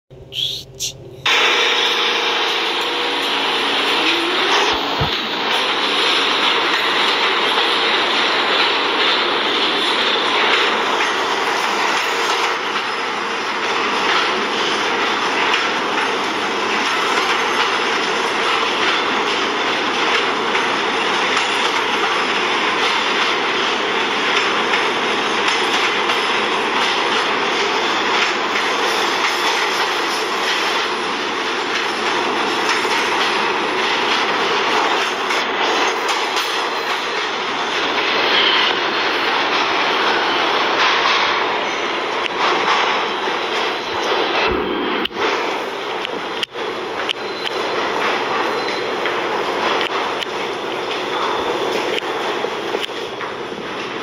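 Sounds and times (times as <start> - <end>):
train rumbling on rails: 0.1 - 54.0.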